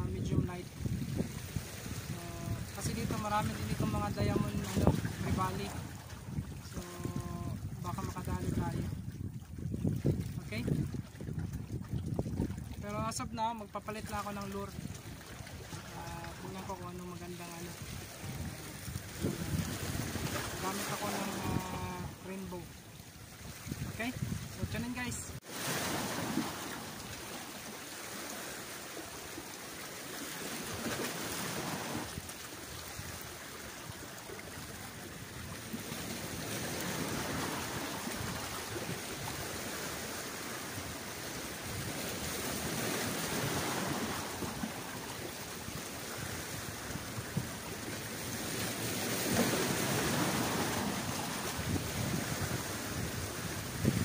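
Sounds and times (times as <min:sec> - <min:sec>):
waves washing against rocks: 0:00.0 - 0:09.1, 0:09.7 - 0:54.0
wind buffeting microphone: 0:00.0 - 0:27.3, 0:30.6 - 0:54.0.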